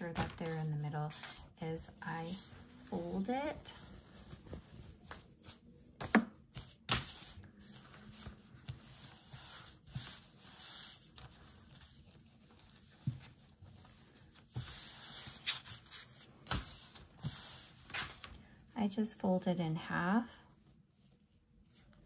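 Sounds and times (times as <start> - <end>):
fabric rustling and rubbing: 0.0 - 18.7, 20.4 - 22.0.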